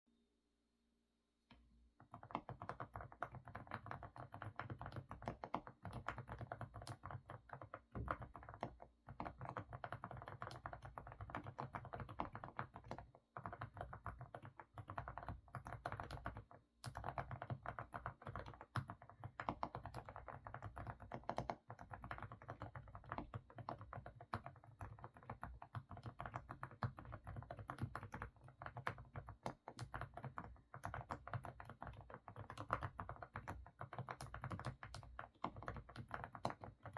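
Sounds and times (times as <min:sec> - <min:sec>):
fast mechanical keyboard typing: 0:02.0 - 0:36.9.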